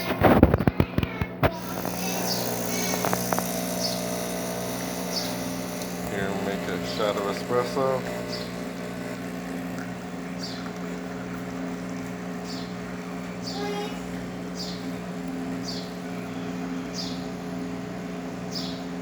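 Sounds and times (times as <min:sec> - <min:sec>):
espresso machine pump humming: 0:00.0 - 0:19.0.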